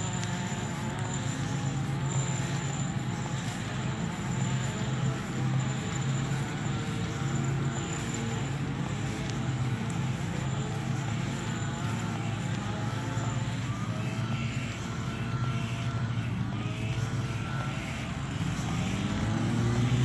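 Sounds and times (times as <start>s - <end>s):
motor running with whine: 0.0s - 20.0s.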